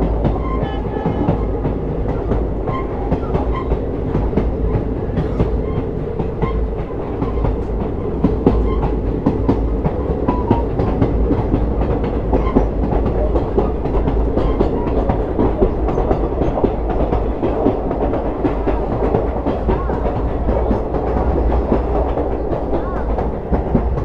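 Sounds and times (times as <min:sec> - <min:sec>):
train low rumble: 0:00.0 - 0:24.0
train wheels clattering on rails: 0:00.0 - 0:24.0.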